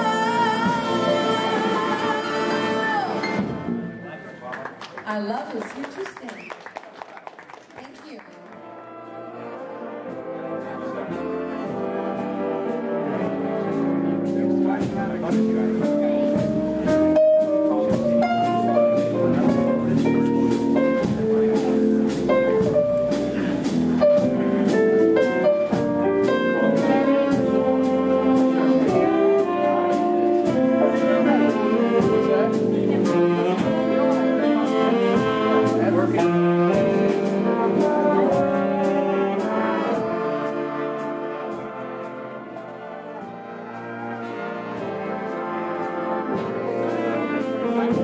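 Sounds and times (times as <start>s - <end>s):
big band playing swing: 0.0s - 48.0s.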